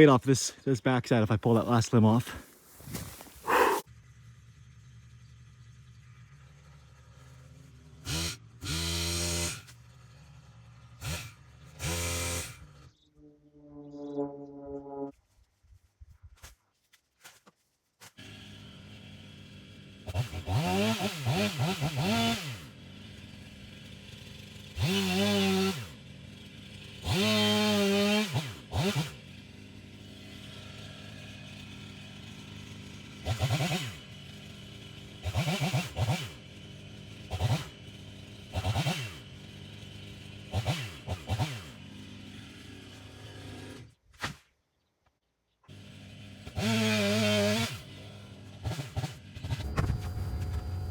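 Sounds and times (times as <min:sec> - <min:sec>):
pole saw engine revving: 0:05.2 - 0:15.1, 0:18.2 - 0:43.9, 0:45.7 - 0:50.9.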